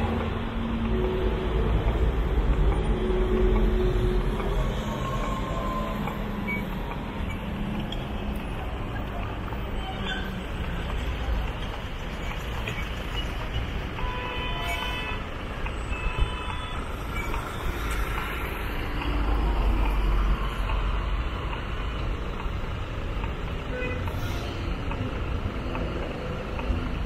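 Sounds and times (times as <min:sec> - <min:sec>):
city traffic: 0:00.0 - 0:27.0.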